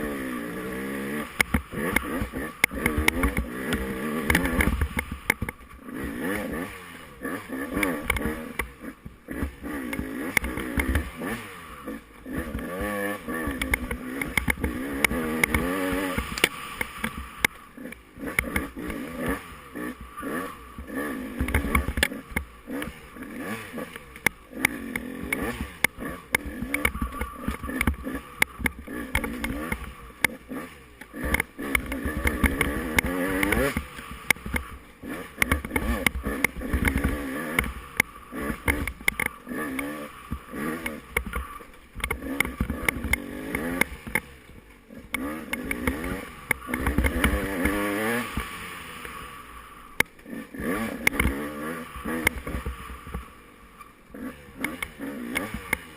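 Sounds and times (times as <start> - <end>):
motorcycle engine revving: 0.0 - 55.9
sharp clicks and knocks: 1.1 - 6.5, 7.7 - 11.3, 12.3 - 19.1, 19.9 - 49.3, 50.0 - 50.3, 50.9 - 55.9.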